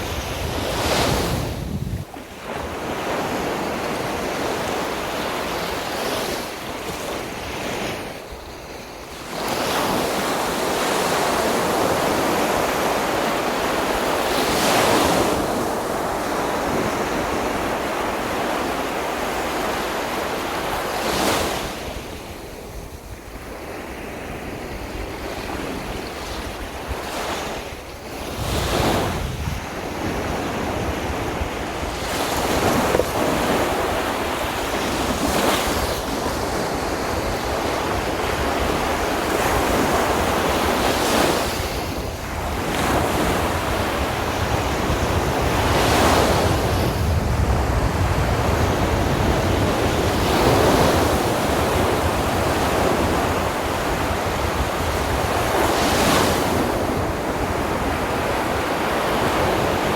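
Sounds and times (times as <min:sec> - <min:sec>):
sea waves breaking: 0:00.0 - 0:59.9
wind rumbling on microphone: 0:00.0 - 0:59.9.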